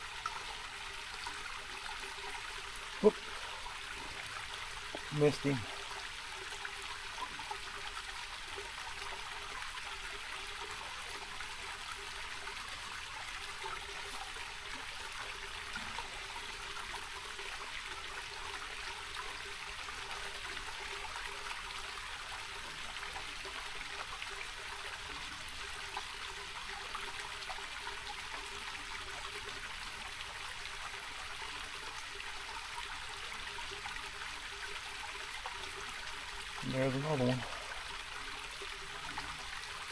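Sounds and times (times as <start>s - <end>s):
creek trickling over stones: 0.0s - 39.9s.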